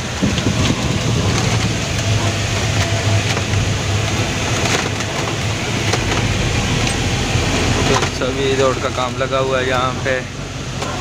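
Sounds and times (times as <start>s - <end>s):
road noise: 0.0s - 11.0s
truck diesel engine drone: 0.0s - 11.0s.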